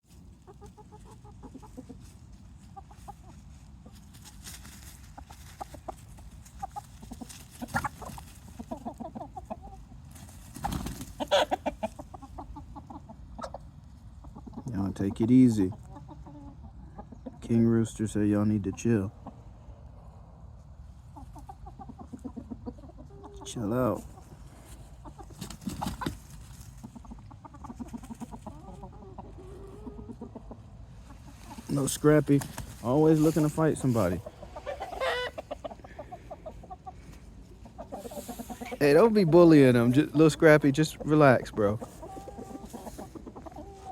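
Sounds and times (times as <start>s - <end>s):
chickens clucking: 0.0s - 43.9s
roosters squawking: 0.1s - 43.9s.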